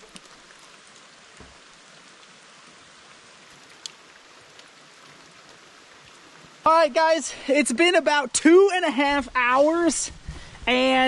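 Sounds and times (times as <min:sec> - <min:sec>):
raindrop ticks: 0:00.0 - 0:11.0
steady rain falling: 0:00.0 - 0:11.0.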